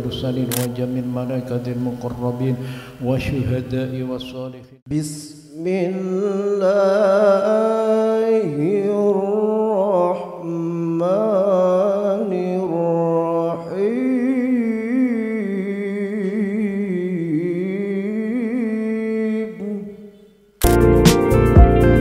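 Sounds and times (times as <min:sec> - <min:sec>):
man chanting into microphone: 0:00.0 - 0:20.2.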